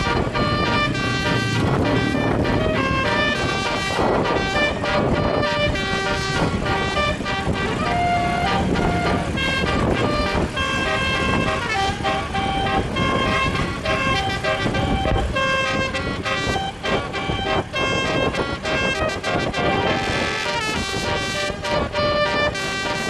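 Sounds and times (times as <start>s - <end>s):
bus horn playing melody: 0.0s - 23.0s
traffic noise: 0.0s - 23.0s.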